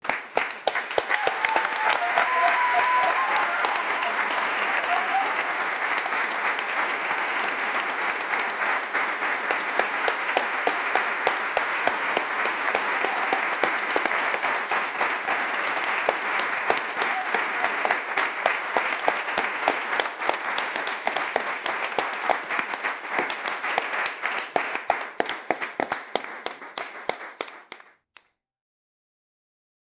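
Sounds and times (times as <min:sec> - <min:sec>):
crowd applauding: 0:00.0 - 0:27.9.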